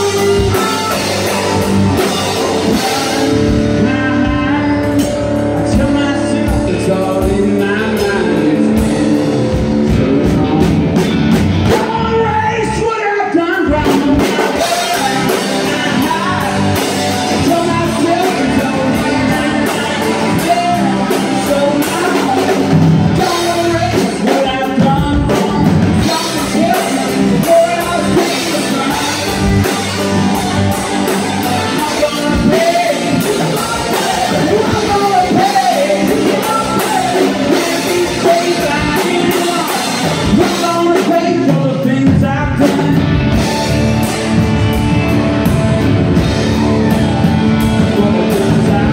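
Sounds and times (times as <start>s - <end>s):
person singing: 0.0s - 44.4s, 45.1s - 48.9s
live rock band: 0.0s - 48.9s.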